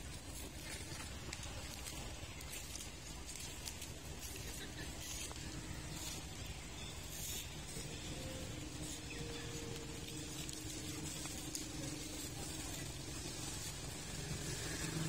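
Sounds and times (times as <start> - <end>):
faint low hum: 0.0 - 15.0
outdoor background hiss: 0.0 - 15.0.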